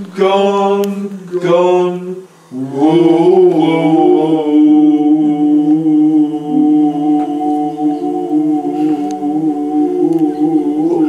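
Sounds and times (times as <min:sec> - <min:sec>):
men singing unaccompanied: 0:00.0 - 0:11.0.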